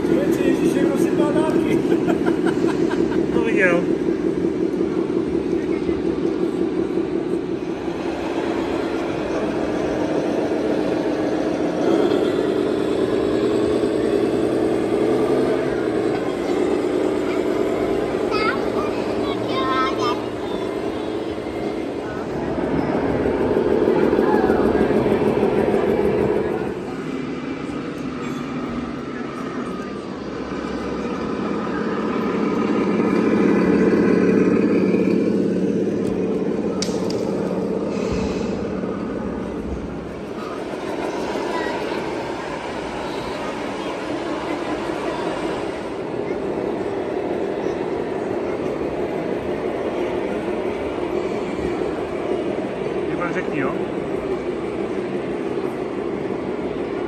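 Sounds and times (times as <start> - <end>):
vehicle motor whirring: 0.0 - 57.0.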